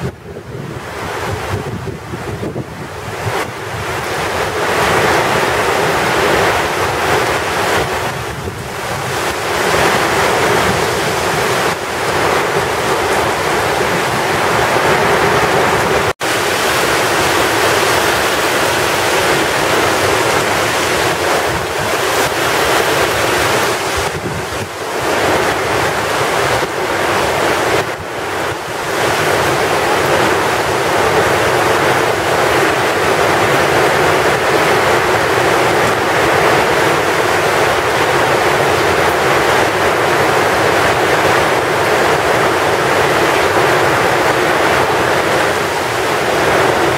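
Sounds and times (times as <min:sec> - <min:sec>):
gusting wind: 0:00.0 - 0:46.9
heavy rain pouring: 0:00.0 - 0:46.9.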